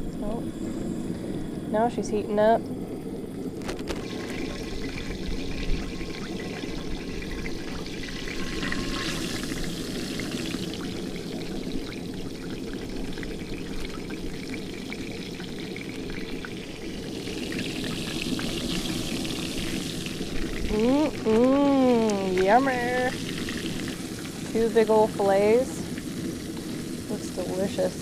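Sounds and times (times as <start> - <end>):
fish frying in hot oil: 0.0 - 28.0.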